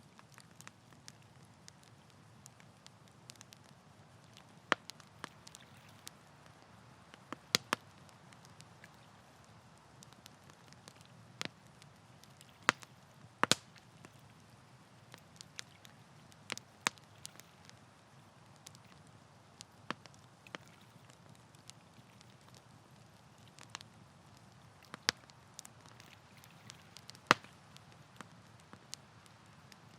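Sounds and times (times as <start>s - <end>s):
campfire crackling and popping: 0.0s - 29.9s
low steady hiss: 0.0s - 29.9s.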